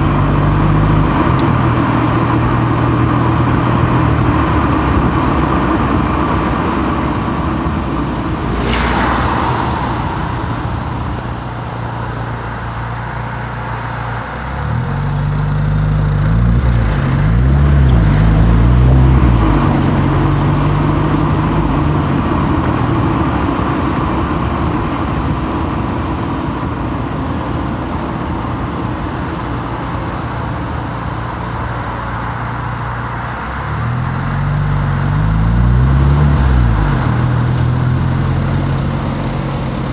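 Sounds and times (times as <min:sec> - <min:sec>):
car engine running: 0:00.0 - 0:39.9
road and tyre noise: 0:00.0 - 0:39.9.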